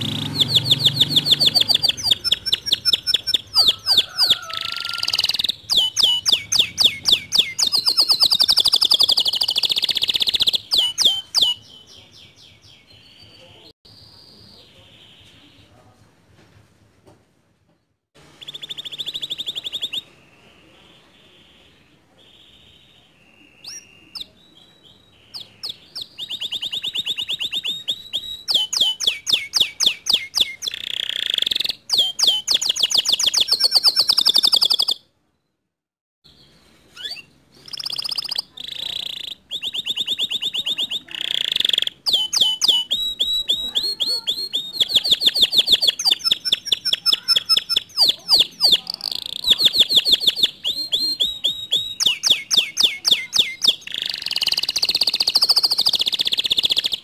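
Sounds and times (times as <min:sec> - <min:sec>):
canary singing trills: 0:00.0 - 0:15.8, 0:18.4 - 0:35.1, 0:36.3 - 0:57.0.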